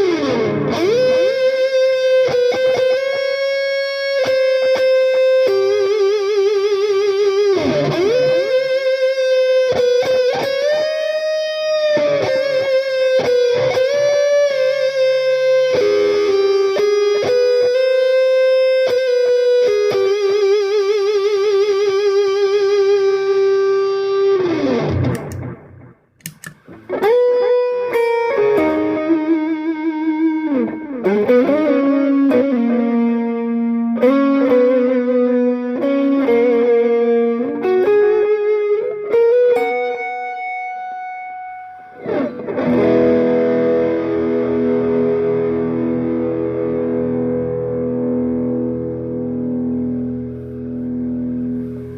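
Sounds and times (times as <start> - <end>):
electric guitar with vibrato: 0.0 - 51.9.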